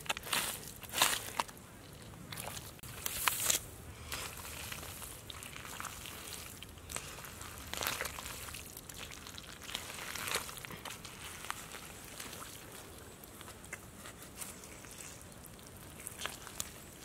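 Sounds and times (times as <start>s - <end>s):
hands squelching in wet mud: 0.0s - 17.0s.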